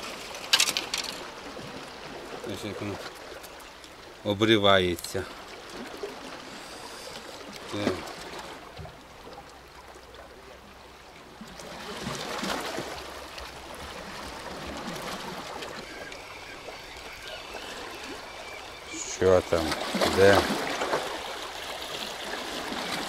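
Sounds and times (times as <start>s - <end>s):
waves lapping against rocks: 0.0s - 23.0s.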